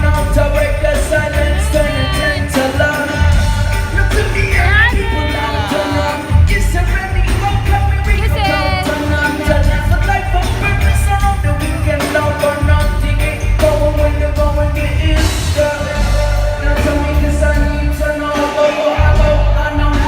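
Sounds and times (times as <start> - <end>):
lead singer singing: 0.0 - 20.0
live band playing: 0.0 - 20.0.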